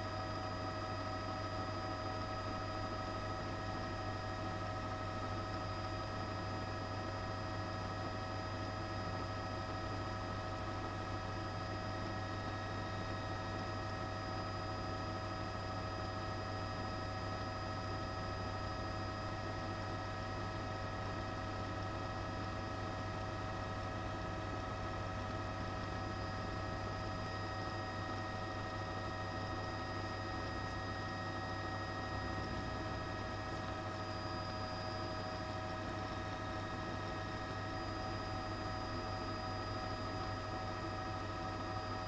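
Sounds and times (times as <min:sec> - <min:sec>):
helicopter cabin drone: 0:00.0 - 0:42.0.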